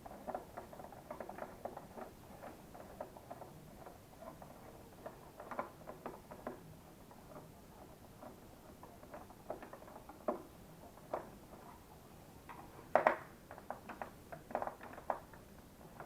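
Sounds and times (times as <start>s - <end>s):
plastic parts clicking and knocking: 0.0s - 11.8s, 12.4s - 16.0s.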